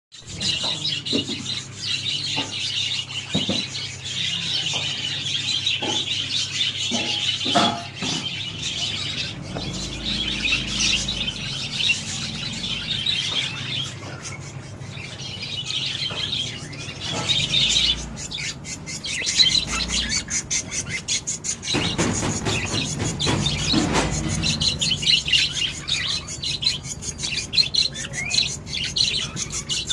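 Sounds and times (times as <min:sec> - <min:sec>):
budgerigars chattering and warbling: 0:00.2 - 0:29.9.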